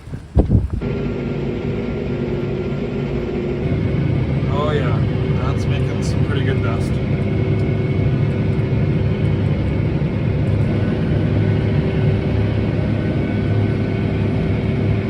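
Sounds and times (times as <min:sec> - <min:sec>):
tractor engine under load: 0:00.0 - 0:12.4.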